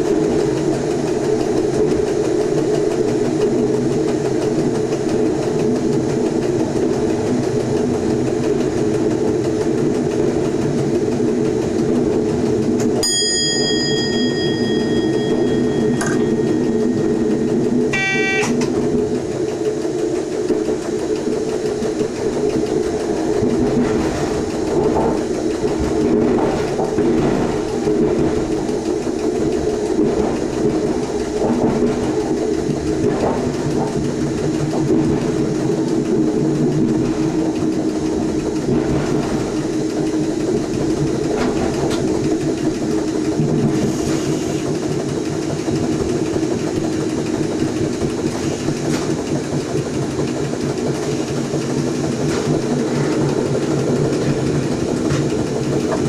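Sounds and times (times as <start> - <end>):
electric train motor hum: 0.0 - 56.0
wheels clicking over rail joints: 0.0 - 56.0.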